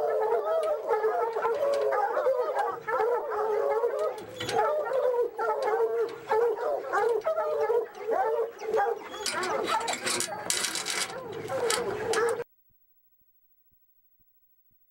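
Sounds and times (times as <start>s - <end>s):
hounds baying: 0.0s - 12.4s.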